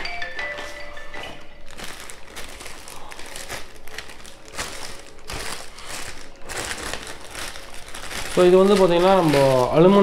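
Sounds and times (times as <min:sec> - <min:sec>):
plastic packaging crinkling: 0:01.3 - 0:10.0.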